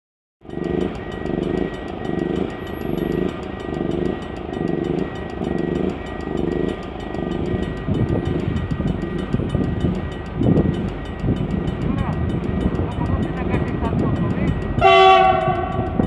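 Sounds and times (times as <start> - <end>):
pulsing warning tone: 0.4 - 16.0
rapid regular clicking strikes: 0.4 - 16.0.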